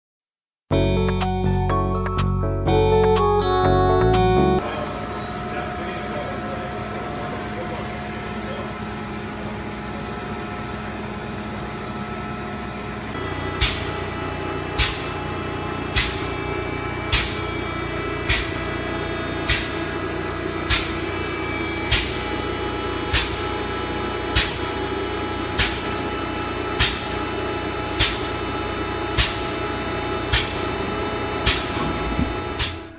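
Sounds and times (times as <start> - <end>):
machine humming: 4.0 - 32.9.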